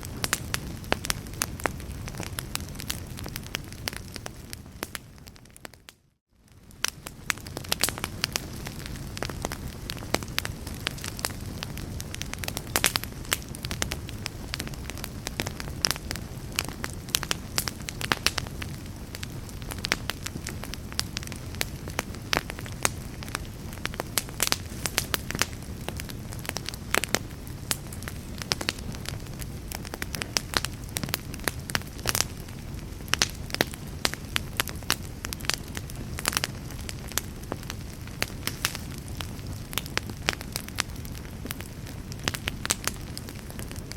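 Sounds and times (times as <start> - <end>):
low rumble of flames: 0.0 - 43.9
wood fire crackling: 0.0 - 43.9
sharp pops of fire: 6.5 - 43.9.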